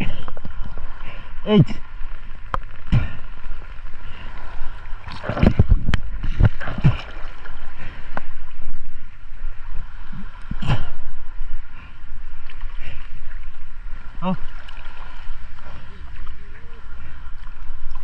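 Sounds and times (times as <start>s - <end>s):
water sloshing around a swimmer: 0.0s - 18.0s.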